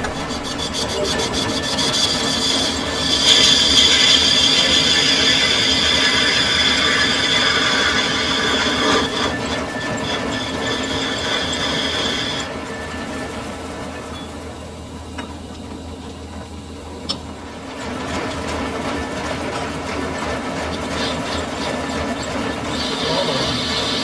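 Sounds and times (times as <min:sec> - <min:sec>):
metal lathe cutting squeal: 0:00.0 - 0:15.6, 0:20.2 - 0:24.0.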